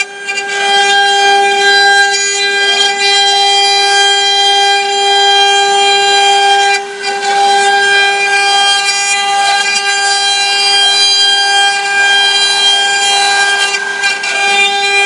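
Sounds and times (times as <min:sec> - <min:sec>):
spindle motors whining: 0:00.0 - 0:15.0.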